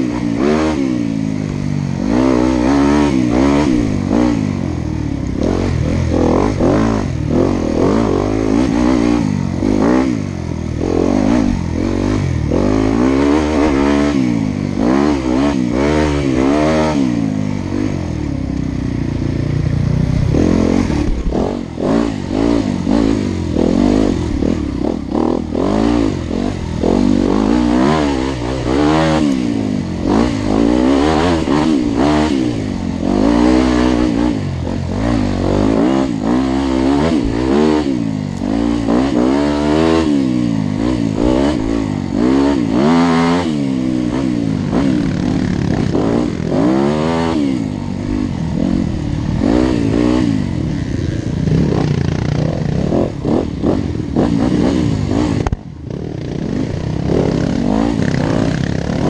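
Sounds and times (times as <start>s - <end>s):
engines revving: 0.0s - 59.0s.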